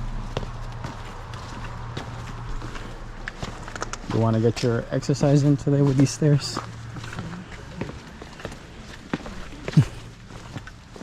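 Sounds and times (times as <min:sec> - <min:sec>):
footsteps going down stairs: 0:00.0 - 0:11.0.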